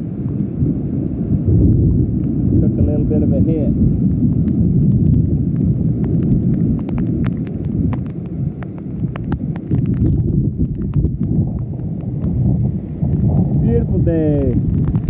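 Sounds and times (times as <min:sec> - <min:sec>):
wind rumbling on microphone: 0:00.0 - 0:15.0
raindrops ticking: 0:01.6 - 0:02.7, 0:03.8 - 0:15.0.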